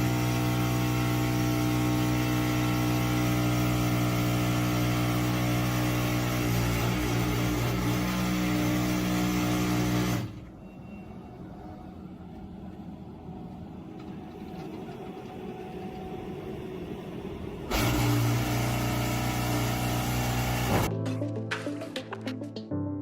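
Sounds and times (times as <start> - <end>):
heavy machine engine droning: 0.0 - 20.9
rough engine sound: 0.0 - 20.9.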